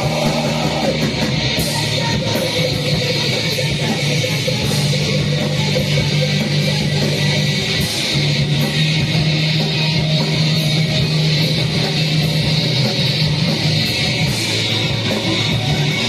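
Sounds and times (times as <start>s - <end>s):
distorted rock band playing live: 0.0s - 16.0s.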